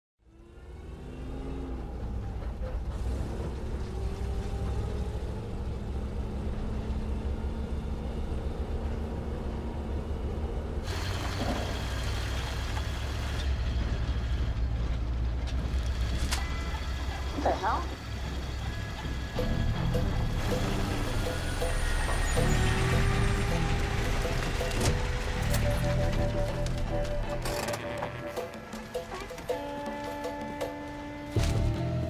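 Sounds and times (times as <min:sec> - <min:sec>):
road rumble: 0:00.2 - 0:32.0
truck engine rumble: 0:00.2 - 0:32.0.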